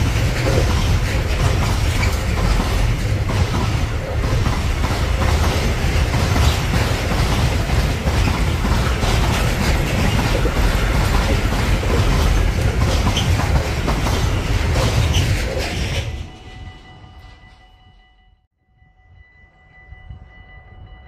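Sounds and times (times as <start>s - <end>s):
train wheels rumbling and clattering: 0.0s - 18.2s.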